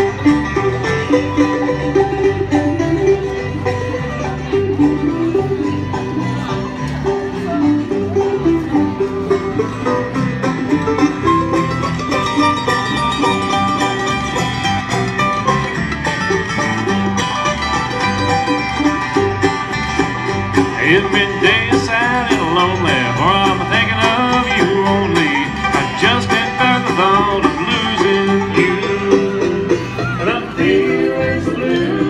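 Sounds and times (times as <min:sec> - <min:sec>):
bluegrass band playing: 0:00.0 - 0:32.0
fast banjo picking: 0:00.0 - 0:32.0
sliding melody line: 0:00.0 - 0:32.0.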